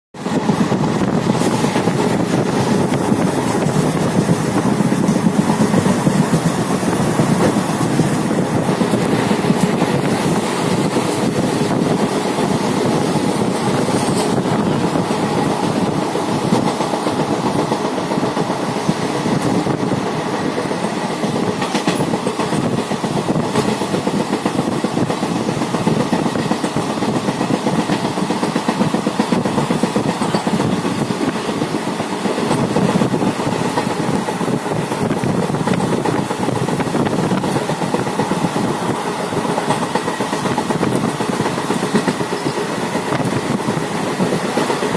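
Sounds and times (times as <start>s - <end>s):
train rumble: 0.2s - 44.9s
wheels clattering over rails: 0.3s - 19.8s, 20.6s - 44.9s.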